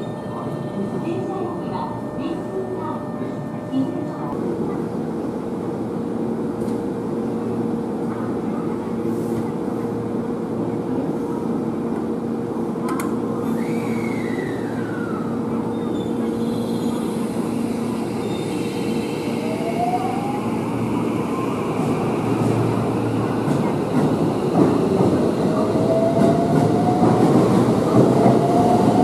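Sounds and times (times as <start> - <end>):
electric train hum: 0.0 - 29.0.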